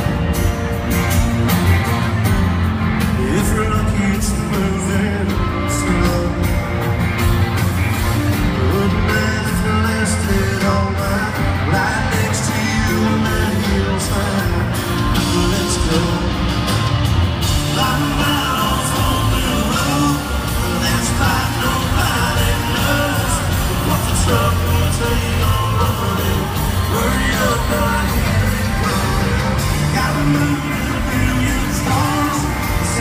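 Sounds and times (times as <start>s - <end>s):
live country rock band: 0.0s - 33.0s
man singing: 2.9s - 7.0s, 8.3s - 33.0s.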